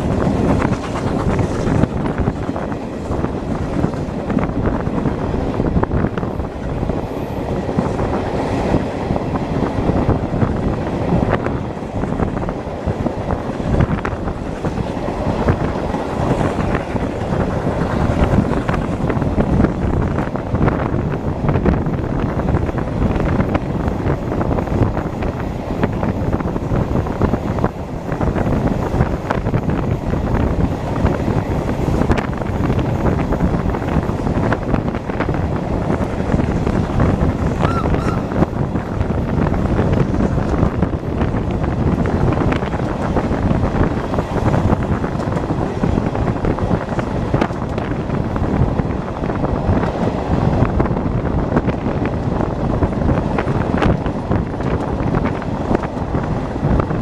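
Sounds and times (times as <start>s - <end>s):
train carriages on rails: 0.0s - 57.0s
wind buffeting microphone: 0.0s - 57.0s.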